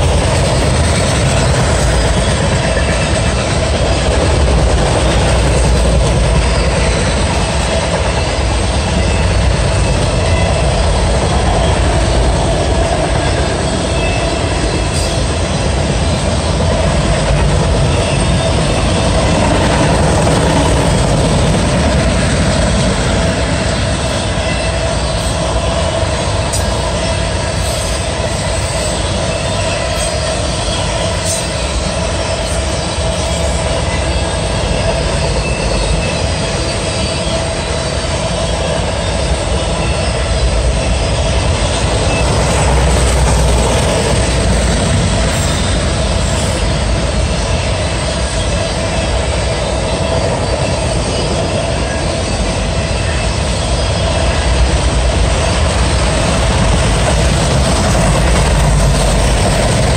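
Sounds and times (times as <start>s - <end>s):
freight train wheels roaring on rail: 0.0s - 59.9s.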